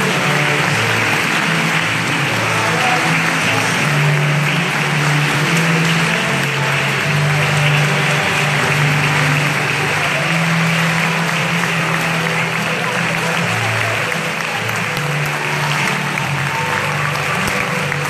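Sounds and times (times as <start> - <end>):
crowd applause: 0.0 - 18.0
music with long low notes: 0.0 - 18.0.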